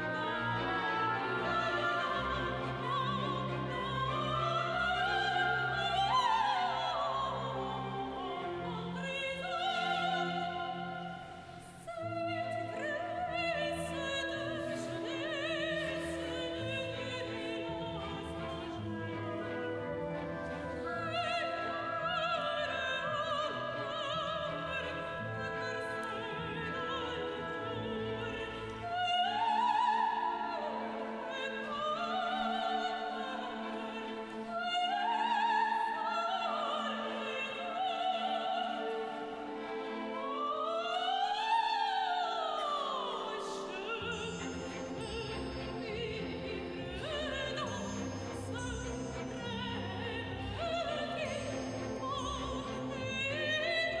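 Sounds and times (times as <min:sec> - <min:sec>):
orchestra playing: 0:00.0 - 0:35.8, 0:36.4 - 0:54.0
soprano singing operatic aria: 0:00.0 - 0:54.0.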